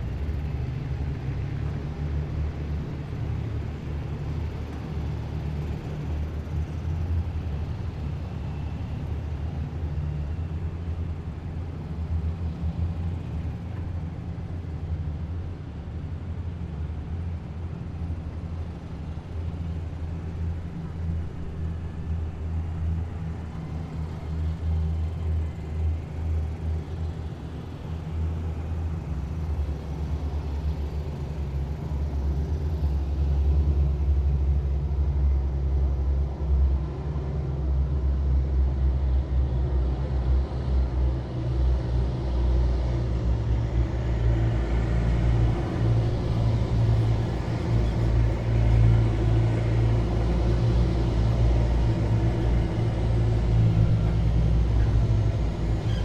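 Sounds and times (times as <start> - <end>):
heavy vehicles engine rumble: 2.5 - 56.0.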